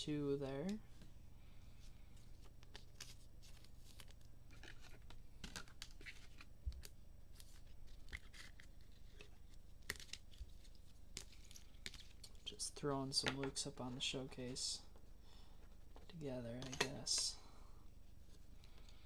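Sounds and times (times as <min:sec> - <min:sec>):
trading cards rustling and clicking: 0:02.1 - 0:17.4.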